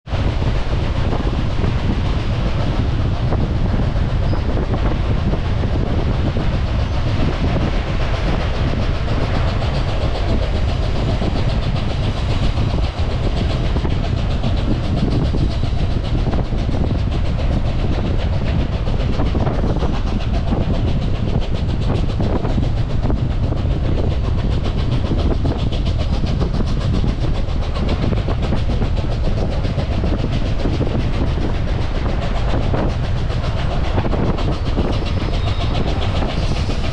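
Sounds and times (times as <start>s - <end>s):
train wheels clacking over rails: 0.1s - 36.9s.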